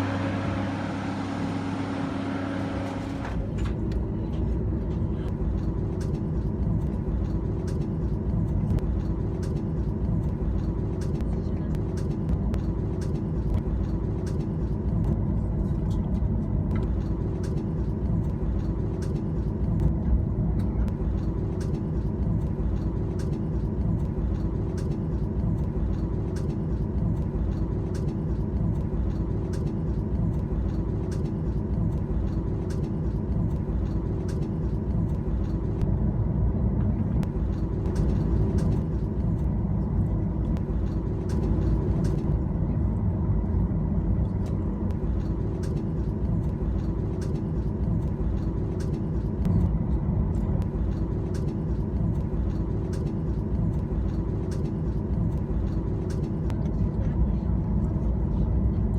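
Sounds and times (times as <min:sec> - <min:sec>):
jet engine rumble in cabin: 0:00.0 - 0:58.9.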